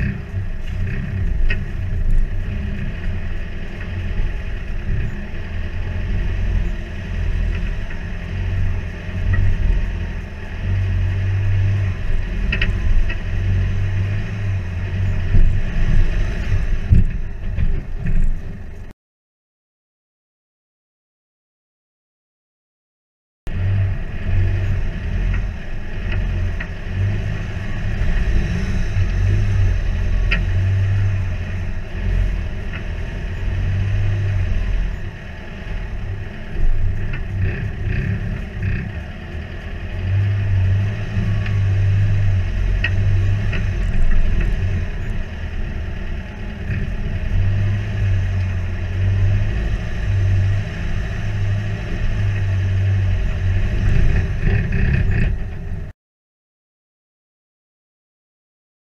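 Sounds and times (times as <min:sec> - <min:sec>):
off-road vehicle engine rumble: 0:00.0 - 0:19.0, 0:23.5 - 0:56.0.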